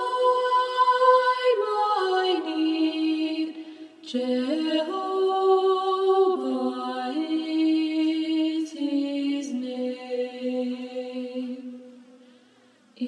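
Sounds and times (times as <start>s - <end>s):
women singing hymn in harmony: 0.0s - 11.8s.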